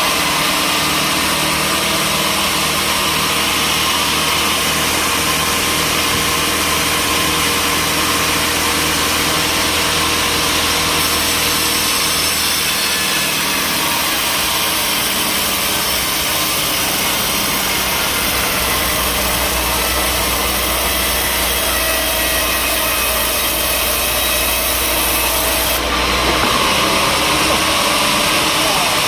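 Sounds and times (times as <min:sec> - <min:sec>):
motor running: 0:00.0 - 0:29.0
saw rasping through log: 0:00.0 - 0:29.0.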